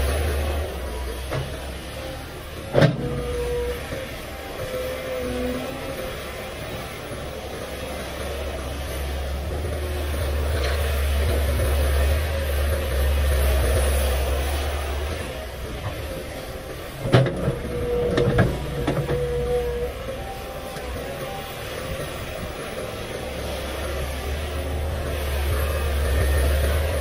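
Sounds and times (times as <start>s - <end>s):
excavator diesel engine drone: 0.0s - 27.0s.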